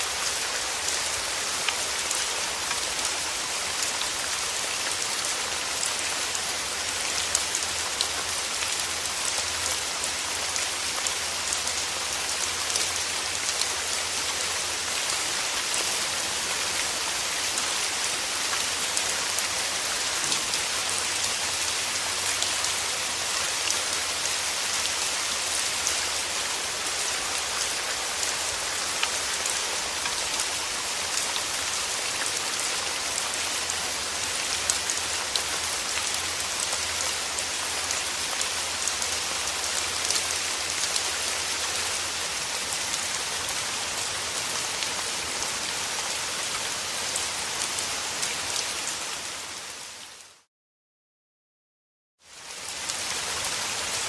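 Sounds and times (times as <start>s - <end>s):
steady rain falling: 0.0s - 50.5s, 52.2s - 54.0s.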